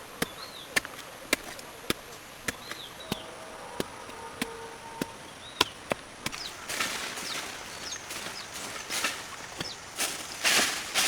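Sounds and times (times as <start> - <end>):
rustling through leaves and brush: 0.6 - 11.0.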